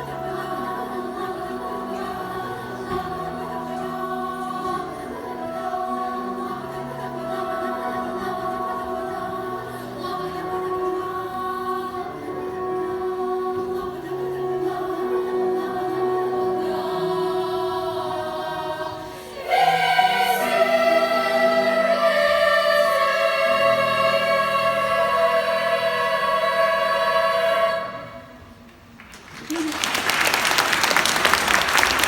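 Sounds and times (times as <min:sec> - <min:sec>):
choir singing: 0:00.0 - 0:28.7.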